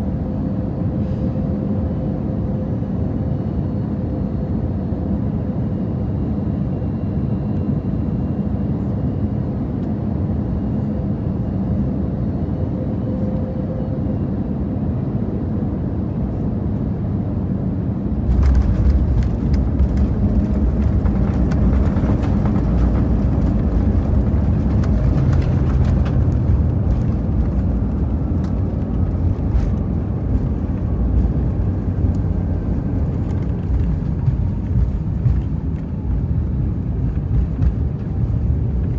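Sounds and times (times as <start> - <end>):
aircraft cabin engine rumble: 0.0 - 38.9.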